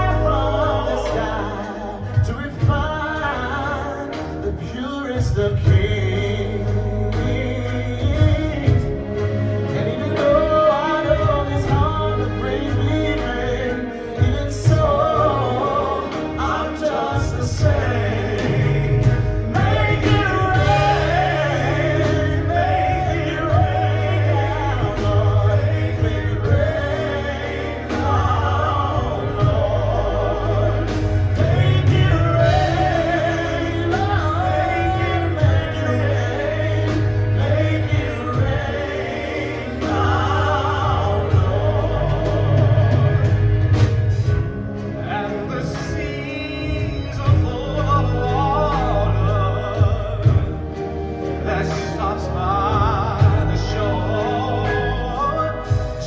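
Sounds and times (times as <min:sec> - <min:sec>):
instrumental accompaniment: 0:00.0 - 0:56.0
male group singing in harmony: 0:00.0 - 0:56.0.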